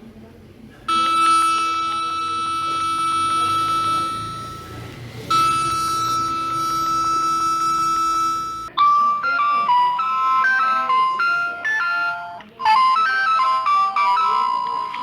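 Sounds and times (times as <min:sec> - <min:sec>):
harsh steady alarm tone: 0:00.9 - 0:15.0.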